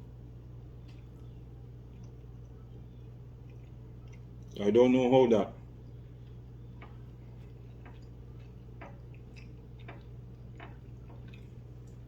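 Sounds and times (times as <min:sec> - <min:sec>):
steady low hum: 0:00.0 - 0:12.0
person chewing food: 0:00.7 - 0:04.6, 0:05.7 - 0:12.0.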